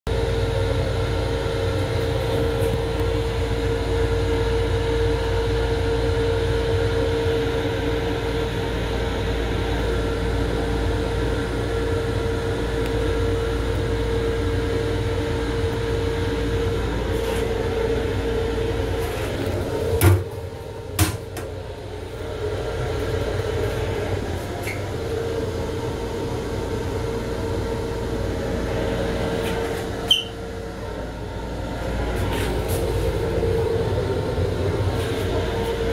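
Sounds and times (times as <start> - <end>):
train car running hum: 0.1 - 35.9.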